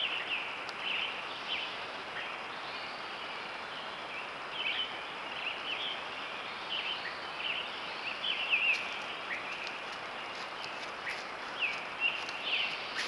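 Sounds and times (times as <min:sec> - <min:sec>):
small birds chirping: 0:00.0 - 0:13.0
steady hiss: 0:00.0 - 0:13.0.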